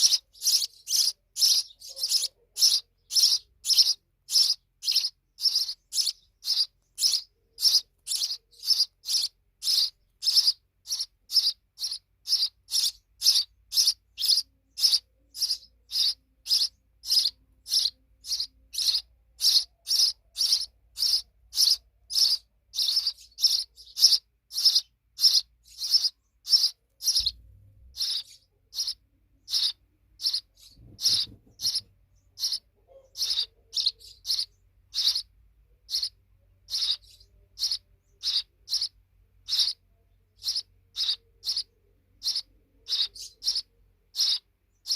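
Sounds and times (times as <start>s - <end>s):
sparrow chirping: 0.0s - 44.9s.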